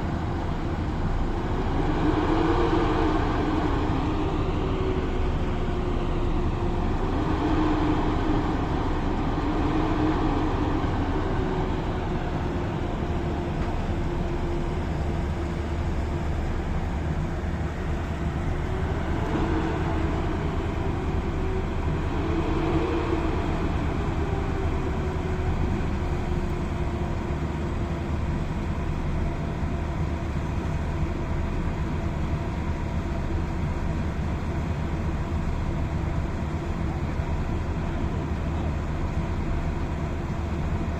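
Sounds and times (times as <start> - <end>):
electric locomotive humming: 0.0 - 40.9.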